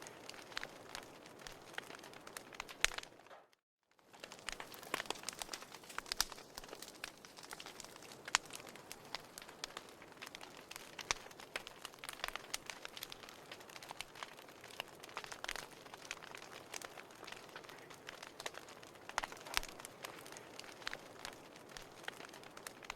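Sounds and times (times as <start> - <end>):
firewood crackling and popping: 0.0 - 22.9.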